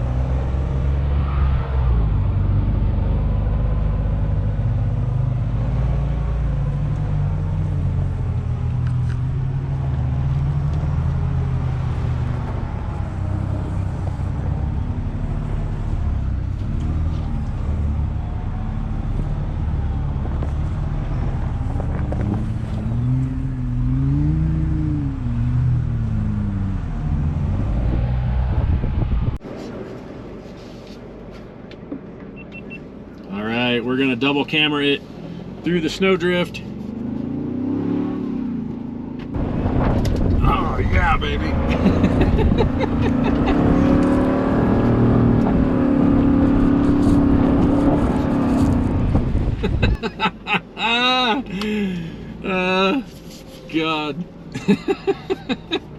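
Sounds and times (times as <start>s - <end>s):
car engine revving: 0.0s - 29.4s, 33.4s - 55.9s.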